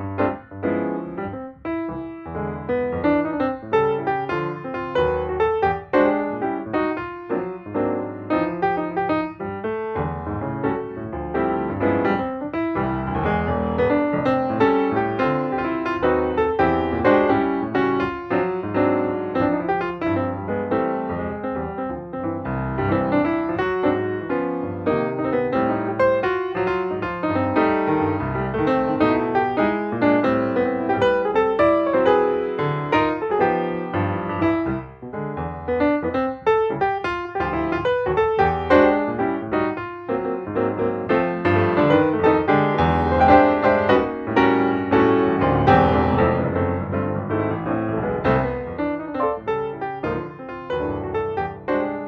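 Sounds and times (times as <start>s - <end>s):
piano melody over held chords: 0.0s - 52.0s.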